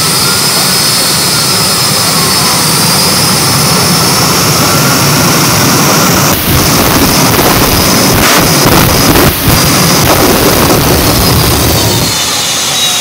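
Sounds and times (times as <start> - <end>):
high whine: 0.0 - 13.0
jet engine roaring: 0.0 - 13.0.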